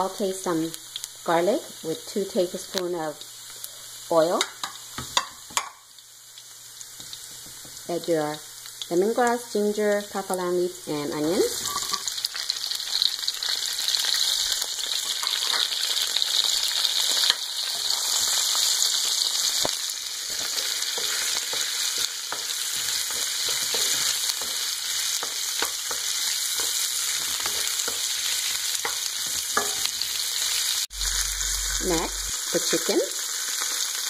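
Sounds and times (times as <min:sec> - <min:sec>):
vegetables sizzling in hot oil: 0:00.0 - 0:34.0.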